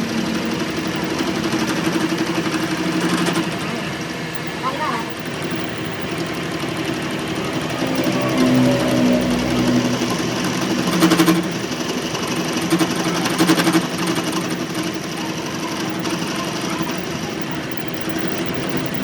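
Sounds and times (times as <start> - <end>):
motor hum: 0.0 - 19.0
workshop machine rattling: 0.0 - 19.0.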